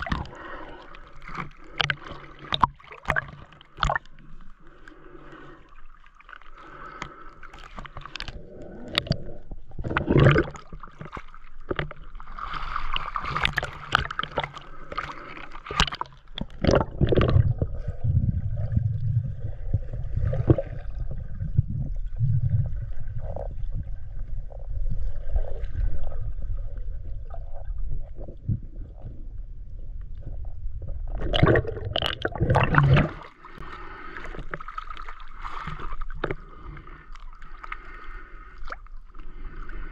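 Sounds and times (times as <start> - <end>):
water splashing and gurgling: 0.0 - 29.4, 30.2 - 39.9
muffled underwater rumble: 6.6 - 39.9.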